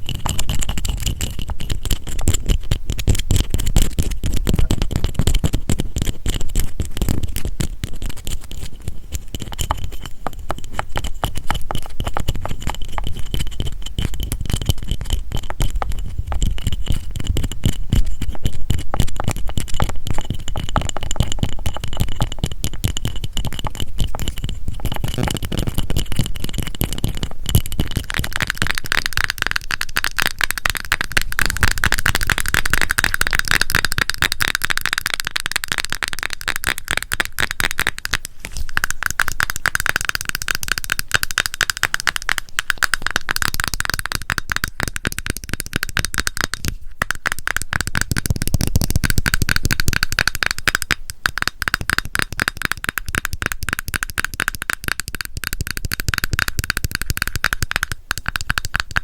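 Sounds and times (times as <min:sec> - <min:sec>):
fingernails tapping on plastic jar: 0:00.0 - 0:59.0.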